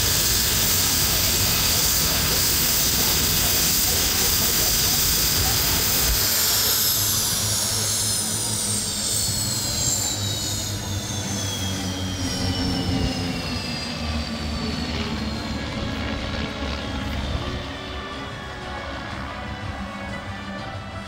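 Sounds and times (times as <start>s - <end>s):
jet turbine whine: 0.0s - 21.0s
low engine rumble: 0.0s - 21.0s.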